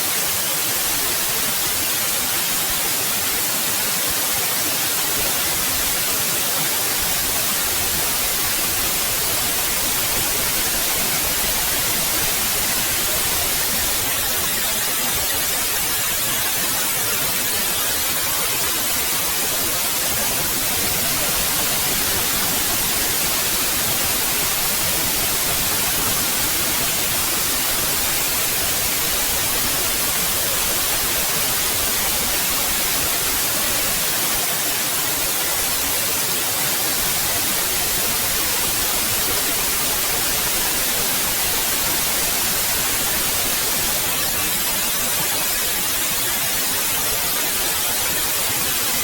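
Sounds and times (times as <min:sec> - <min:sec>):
white noise hiss: 0:00.0 - 0:49.0.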